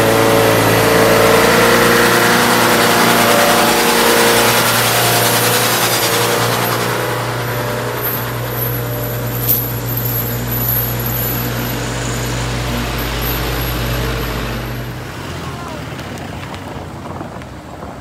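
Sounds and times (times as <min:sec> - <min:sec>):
truck engine running: 0:00.0 - 0:17.4
road noise: 0:00.0 - 0:18.0.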